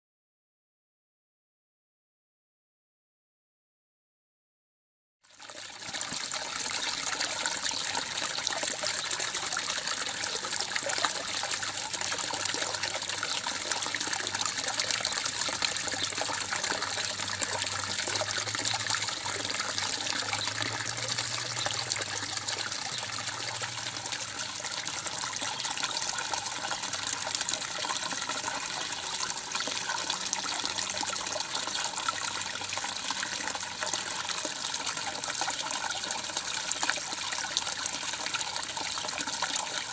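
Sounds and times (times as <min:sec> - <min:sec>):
water trickling and splashing: 0:05.2 - 0:39.9.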